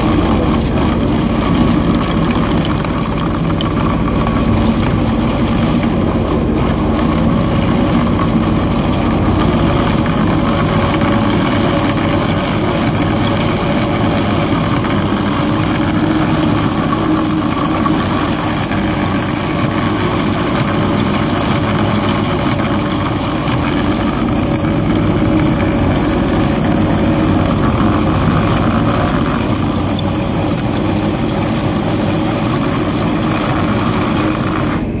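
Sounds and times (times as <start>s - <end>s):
chain trencher digging soil: 0.0s - 35.0s
excavator engine and hydraulics: 0.0s - 35.0s.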